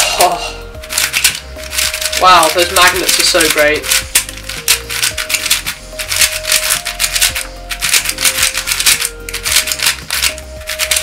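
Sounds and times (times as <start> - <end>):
speed cube plastic clicking: 0.8 - 11.0.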